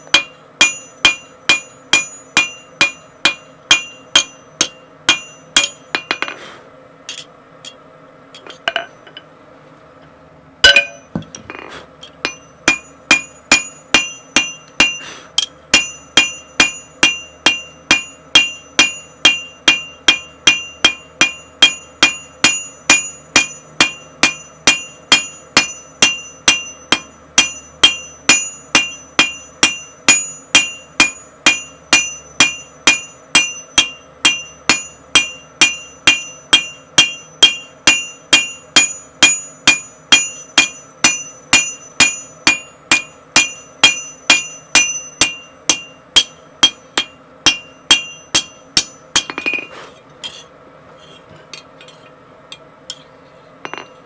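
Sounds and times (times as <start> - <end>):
hammer ringing on anvil: 0.0 - 6.4, 10.6 - 49.7, 53.6 - 54.0.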